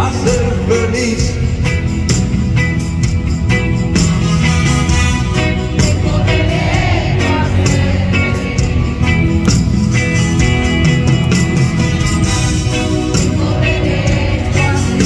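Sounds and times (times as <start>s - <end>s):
drums keeping a steady beat: 0.0s - 15.0s
live band music over pa: 0.0s - 15.0s.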